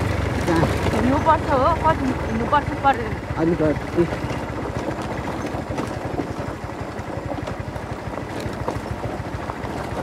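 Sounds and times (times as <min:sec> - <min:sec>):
vehicle engine running roughly: 0:00.0 - 0:10.0.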